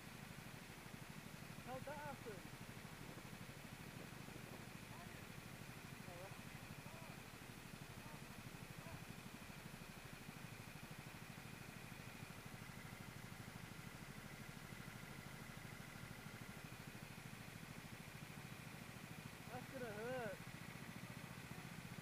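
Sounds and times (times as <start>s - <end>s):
faint engine whine: 0.0s - 22.0s
kart engine running: 0.0s - 22.0s.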